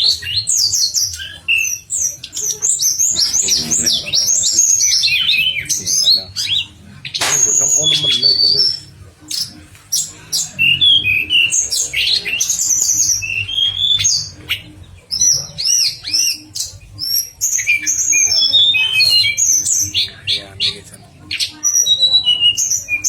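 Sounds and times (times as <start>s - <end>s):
bird singing chirps and trills: 0.0s - 23.0s.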